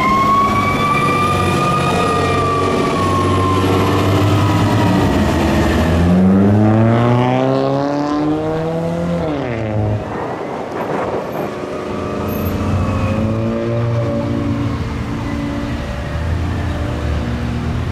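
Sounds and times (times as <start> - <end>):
diesel truck engine accelerating: 0.1 - 17.9.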